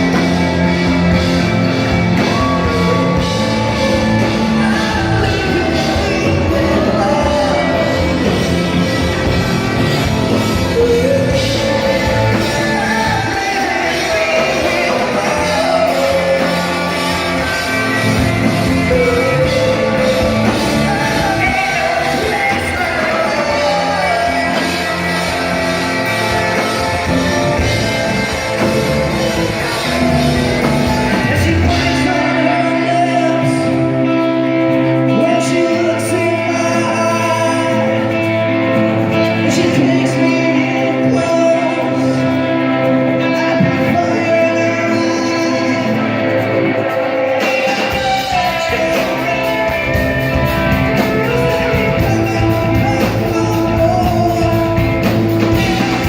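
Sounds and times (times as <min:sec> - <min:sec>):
live rock band: 0:00.0 - 0:56.0
person singing: 0:00.0 - 0:56.0.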